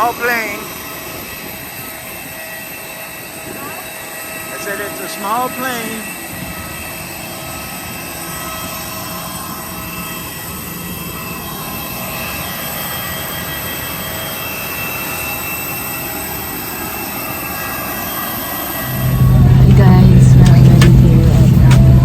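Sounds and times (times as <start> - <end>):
plane cabin drone: 0.0 - 22.0
thin steady whines: 0.0 - 22.0.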